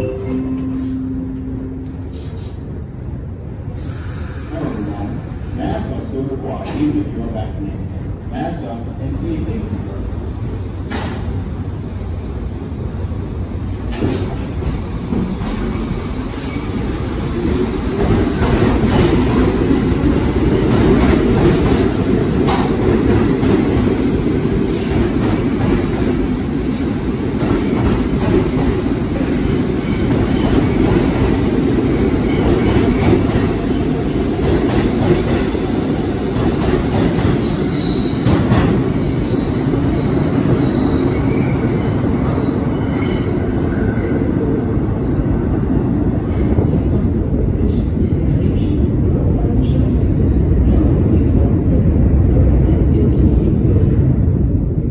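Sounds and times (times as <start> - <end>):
subway train rumbling: 0.0 - 54.9.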